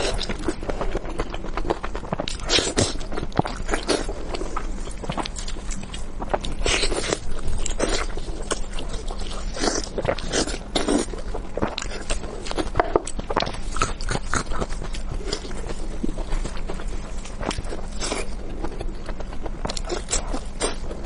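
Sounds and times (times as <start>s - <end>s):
biting and chewing: 0.0s - 21.0s.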